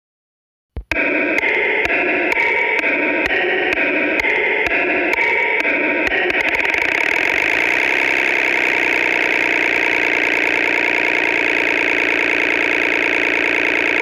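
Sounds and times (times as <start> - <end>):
rhythmic clicks: 0.8 - 14.0
synthesized engine buzzing: 0.9 - 14.0.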